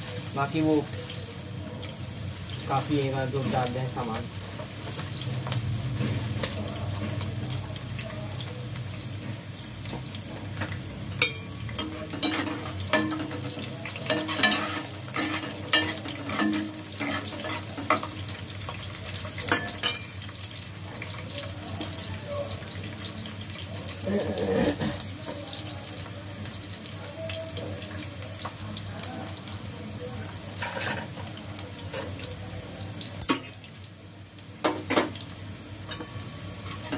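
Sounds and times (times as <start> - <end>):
onions sizzling in oil: 0.0 - 36.9.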